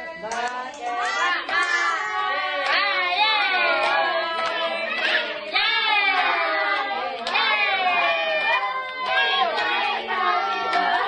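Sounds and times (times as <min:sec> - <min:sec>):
group singing together: 0:00.0 - 0:11.0.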